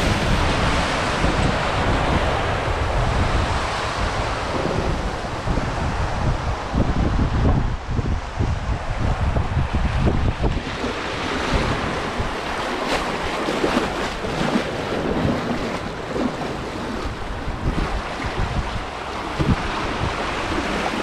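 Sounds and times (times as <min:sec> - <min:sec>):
water rushing along a channel: 0:00.0 - 0:21.0
wind rumbling on microphone: 0:00.0 - 0:21.0.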